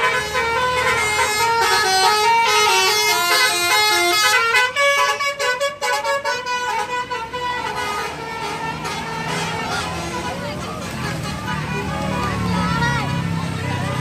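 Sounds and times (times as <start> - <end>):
multi-tone bus horn melody: 0.0 - 14.0.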